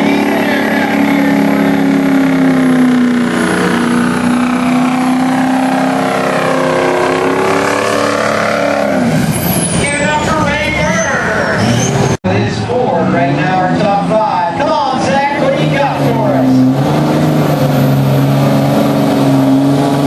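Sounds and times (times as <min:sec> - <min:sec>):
truck engine at high revs: 0:00.0 - 0:20.0.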